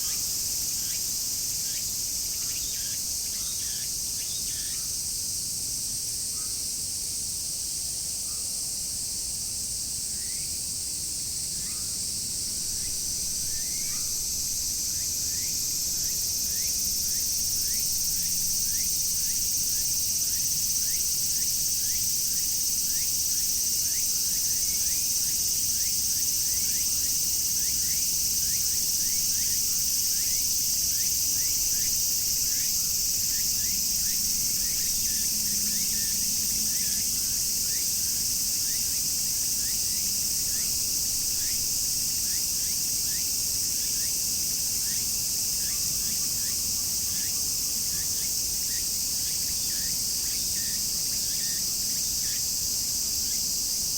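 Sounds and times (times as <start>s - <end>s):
cicadas shrilling: 0.0s - 5.4s, 10.1s - 10.6s, 11.4s - 53.9s.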